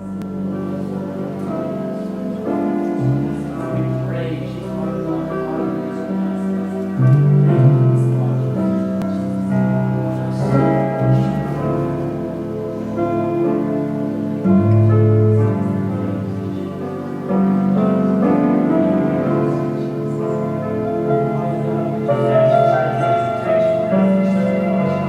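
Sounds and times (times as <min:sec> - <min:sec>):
slow keyboard chords: 0:00.0 - 0:25.0.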